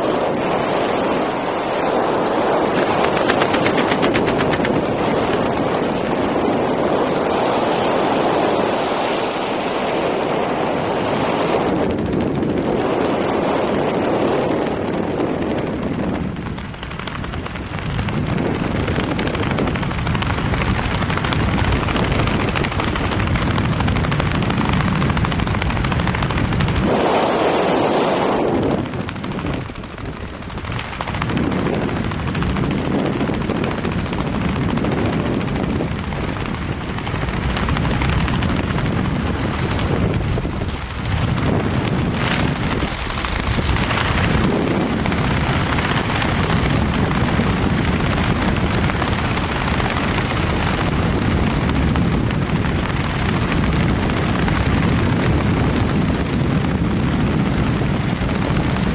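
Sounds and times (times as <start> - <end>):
light aircraft engine: 0.0 - 58.9
wind buffeting microphone: 0.0 - 58.9.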